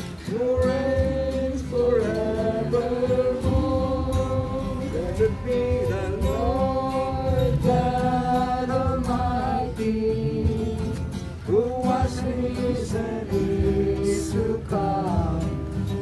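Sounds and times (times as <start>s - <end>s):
people singing together: 0.0s - 16.0s
strummed acoustic guitar: 0.0s - 16.0s.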